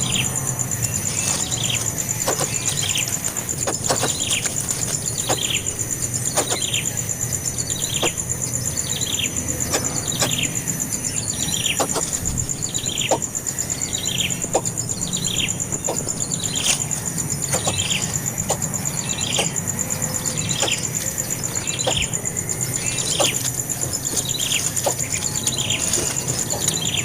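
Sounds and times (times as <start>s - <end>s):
bird chirping: 0.0s - 27.0s.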